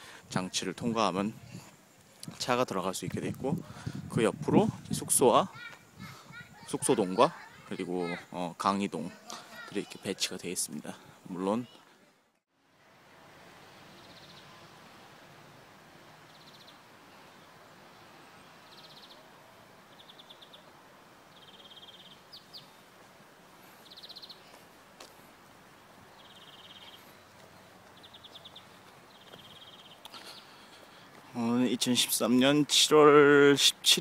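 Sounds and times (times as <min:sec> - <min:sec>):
faint outdoor hiss: 0:00.0 - 0:34.0.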